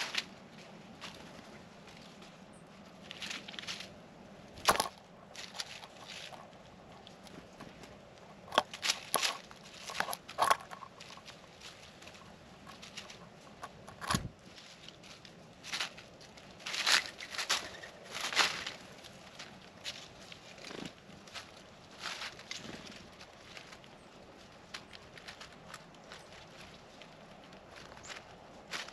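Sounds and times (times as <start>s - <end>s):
birds pecking peanuts off a plate: 3.0s - 28.9s.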